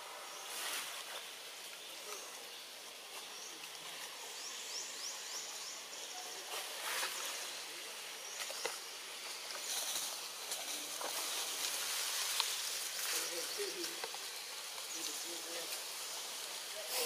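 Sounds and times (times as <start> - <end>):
leaves and branches rustling: 0.0 - 17.0
steady high hiss: 0.0 - 17.0.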